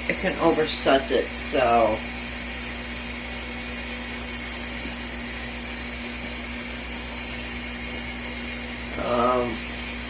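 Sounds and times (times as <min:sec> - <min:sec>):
electric fan humming: 0:00.0 - 0:10.0
water running into a tub: 0:00.0 - 0:10.0.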